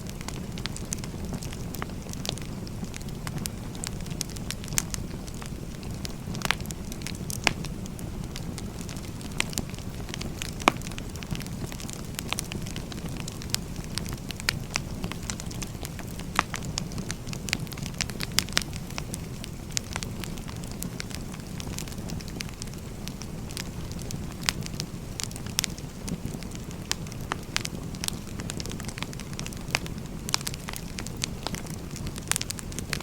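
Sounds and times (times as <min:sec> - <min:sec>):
flames rushing: 0:00.0 - 0:33.0
wood popping and crackling: 0:00.1 - 0:33.0.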